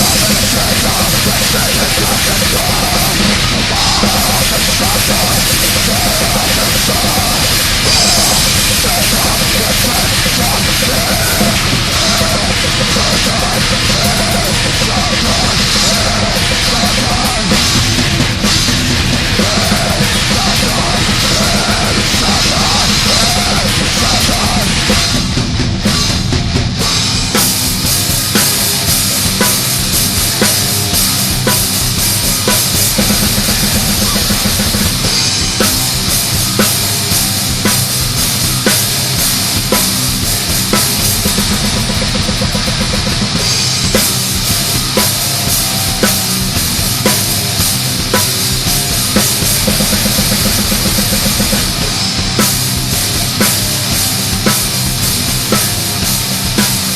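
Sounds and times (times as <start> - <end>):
distorted guitars: 0.0 - 56.9
fast drumming: 0.0 - 56.9.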